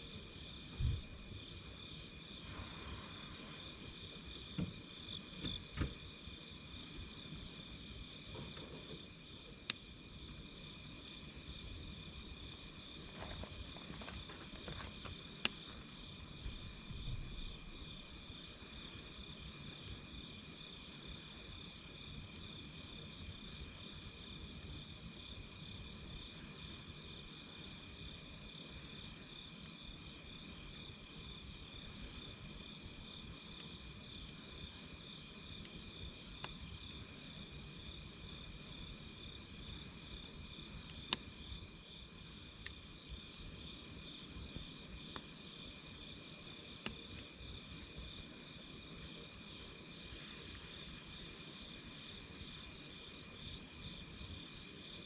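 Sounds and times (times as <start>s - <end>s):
campfire hiss: 0.0s - 55.0s
fire crackling pops: 0.0s - 55.0s
insects chirring: 0.0s - 55.0s.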